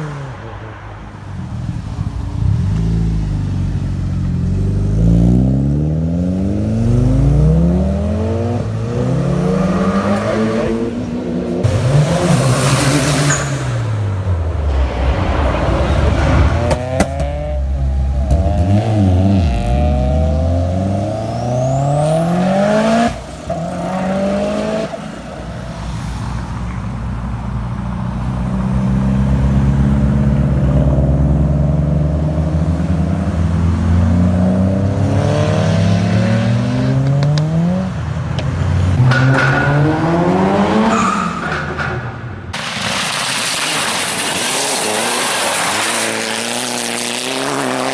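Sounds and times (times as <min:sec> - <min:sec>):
turbocharged car engine accelerating: 0:02.3 - 0:25.2, 0:28.3 - 0:41.3, 0:43.5 - 0:47.9.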